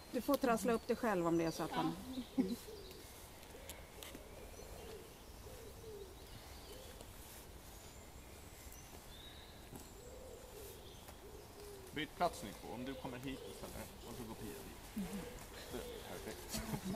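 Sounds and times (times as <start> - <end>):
low arching bird calls: 0.0 - 16.9
thin high birdsong: 0.0 - 16.9.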